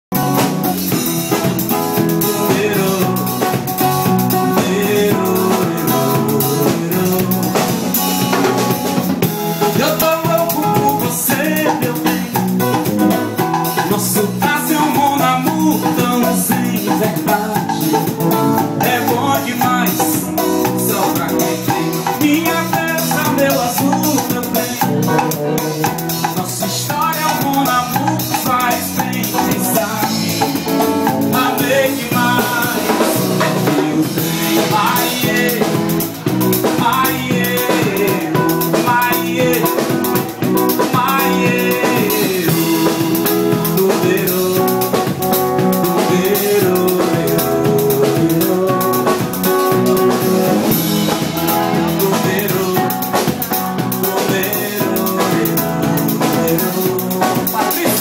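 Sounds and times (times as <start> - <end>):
drums keeping a steady beat: 0.0 - 58.0
electric bass: 0.0 - 58.0
guitar: 0.0 - 58.0
live band playing: 0.1 - 58.0.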